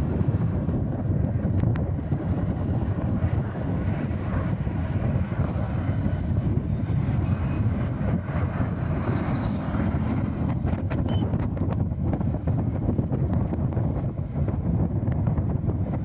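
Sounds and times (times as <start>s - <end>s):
motorcycle engine and road rumble: 0.0s - 16.0s
wind buffeting microphone: 0.0s - 16.0s.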